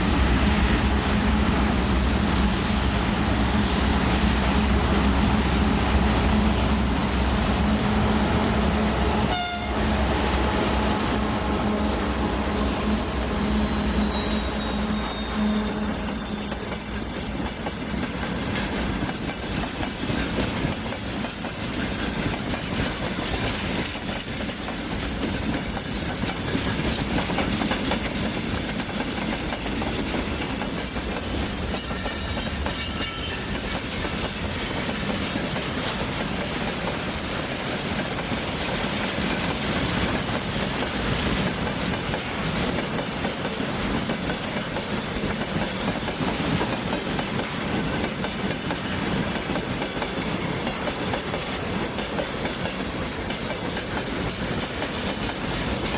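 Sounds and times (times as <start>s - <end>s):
train wheels on rails: 0.0s - 55.9s.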